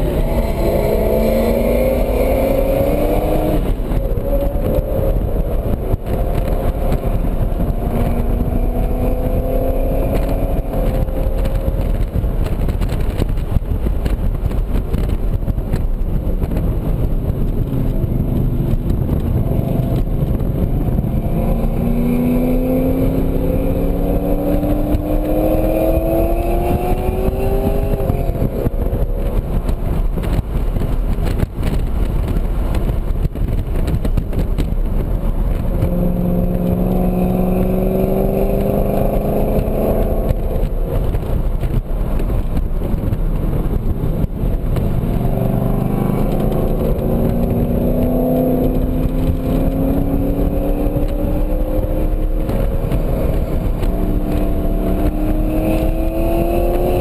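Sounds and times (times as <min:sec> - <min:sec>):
car engine accelerating: 0:00.0 - 0:57.0
road and wind noise: 0:00.0 - 0:57.0.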